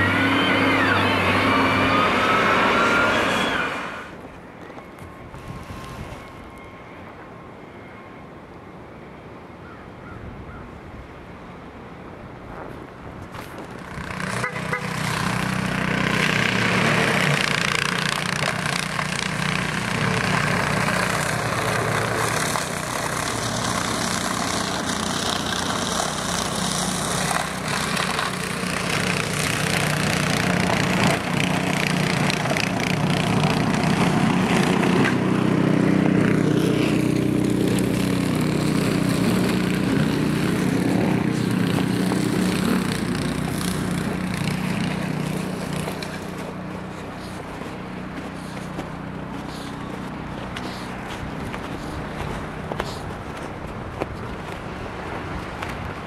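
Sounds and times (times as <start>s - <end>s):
snow removal machine engine: 0.0s - 4.3s, 13.5s - 56.0s.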